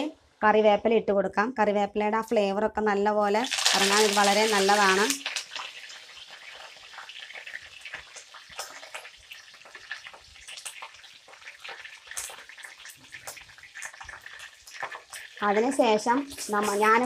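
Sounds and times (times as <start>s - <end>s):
leaves sizzling in hot oil: 3.3s - 17.0s.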